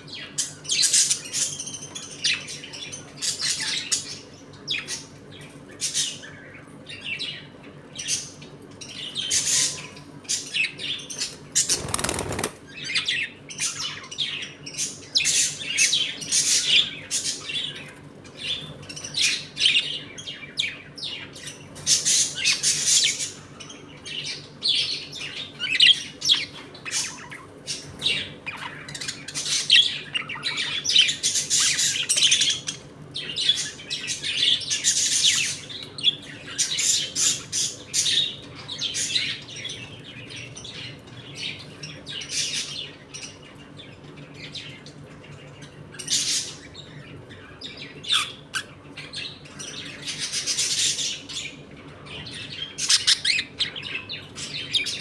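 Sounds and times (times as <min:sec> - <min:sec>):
budgerigars chirping: 0:00.1 - 0:44.8, 0:45.6 - 0:55.0.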